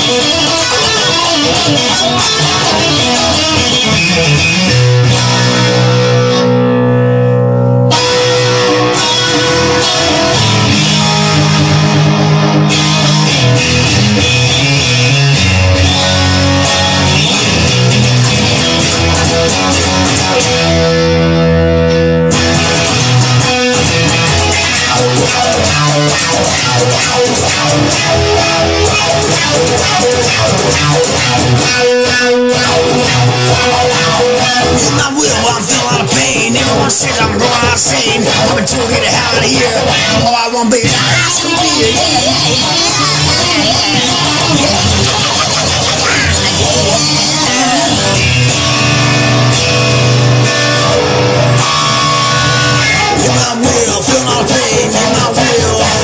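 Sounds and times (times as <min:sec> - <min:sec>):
electric guitar: 0:00.0 - 0:56.0.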